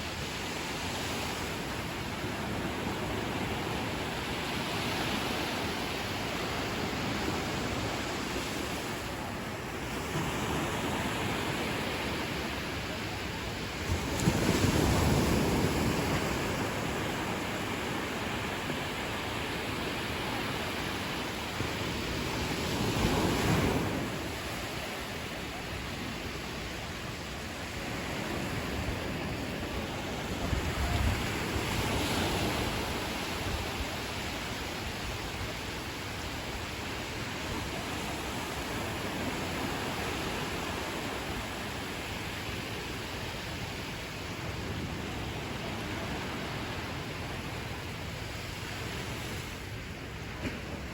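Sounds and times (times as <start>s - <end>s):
ocean waves breaking on beach: 0.0s - 50.9s
wind on microphone: 0.0s - 50.9s.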